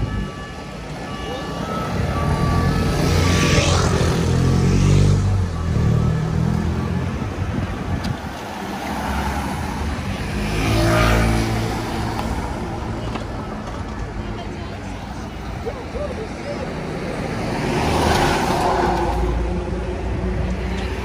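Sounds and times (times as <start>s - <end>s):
cars driving past: 0.7s - 21.0s.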